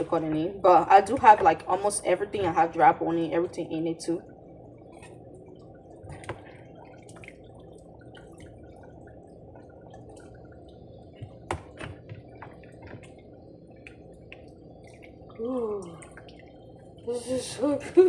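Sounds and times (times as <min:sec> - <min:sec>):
stew bubbling in a pot: 0:00.0 - 0:17.2.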